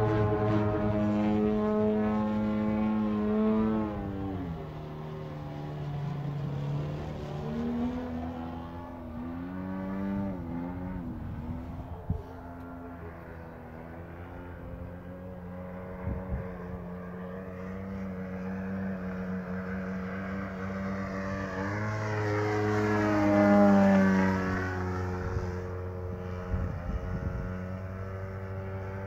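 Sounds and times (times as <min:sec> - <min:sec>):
model airplane engine: 0:00.0 - 0:29.0.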